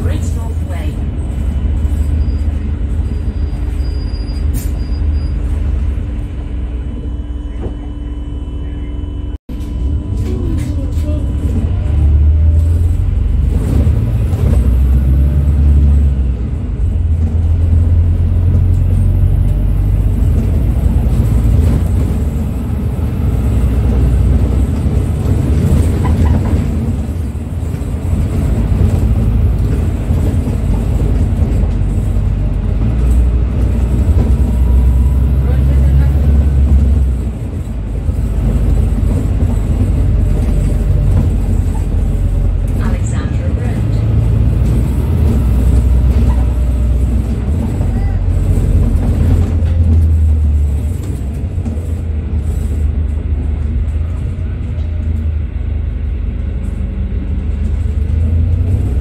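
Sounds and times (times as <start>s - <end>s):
bus drivetrain rumble: 0.0s - 59.0s
road noise: 0.0s - 59.0s.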